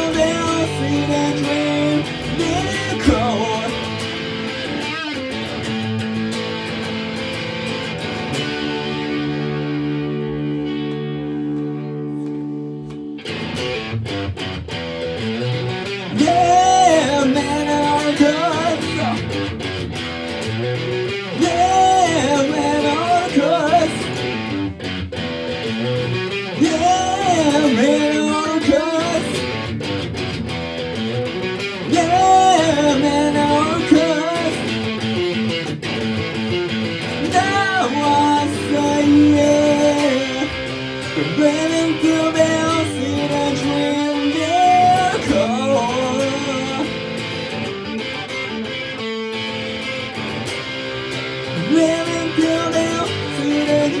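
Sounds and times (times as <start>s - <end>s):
electric guitar music: 0.0s - 54.0s.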